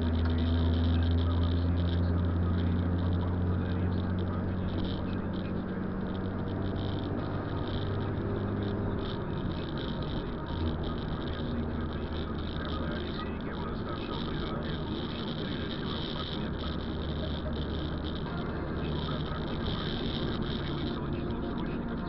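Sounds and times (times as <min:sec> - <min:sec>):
car engine drone: 0:00.0 - 0:22.0
tyres on wet road: 0:00.0 - 0:22.0.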